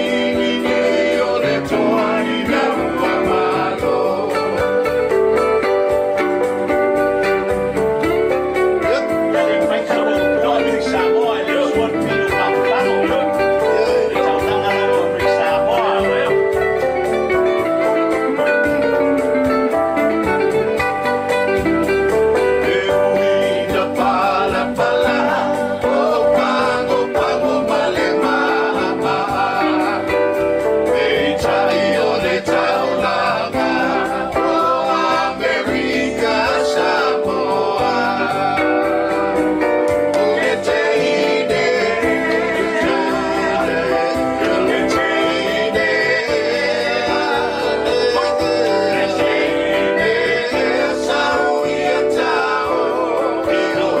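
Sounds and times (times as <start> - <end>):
person singing: 0.0 - 6.2, 7.7 - 18.5, 22.1 - 54.0
instrumental accompaniment: 0.0 - 54.0.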